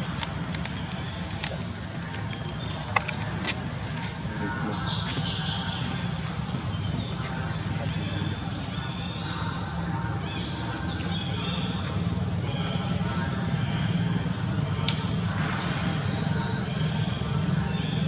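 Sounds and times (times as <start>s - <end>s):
high insect drone: 0.0s - 18.0s
low steady rumble: 0.0s - 18.0s.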